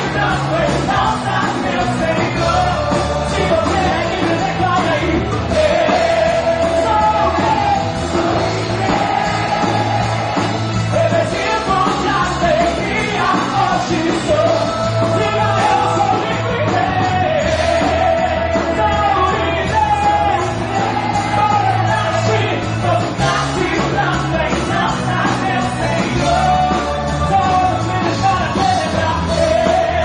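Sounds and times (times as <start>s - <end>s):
rock band with singing: 0.0s - 30.0s.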